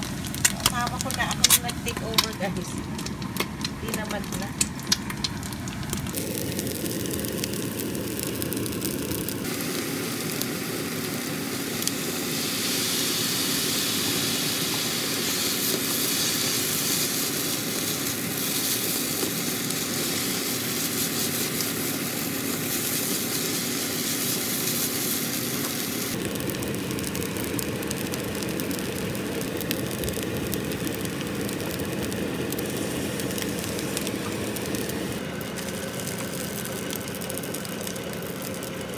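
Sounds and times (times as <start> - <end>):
fried rice sizzling in a pan: 2.6 - 38.9.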